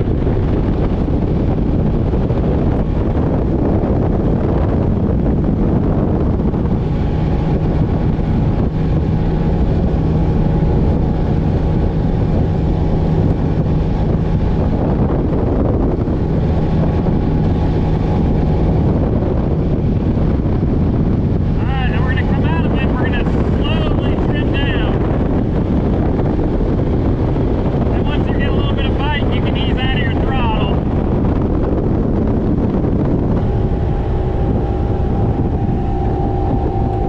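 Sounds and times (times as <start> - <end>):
outboard motor hum: 0.0 - 37.0
wind rush on microphone: 0.0 - 37.0.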